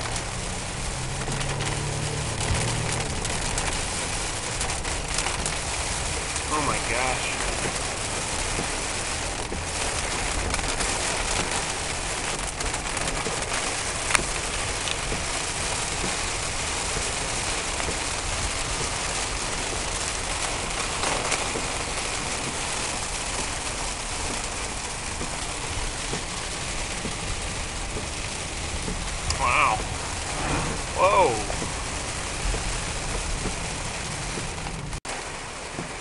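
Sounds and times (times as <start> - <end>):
heavy rain on car roof: 0.0 - 36.0
tyres hissing on wet road: 0.0 - 36.0.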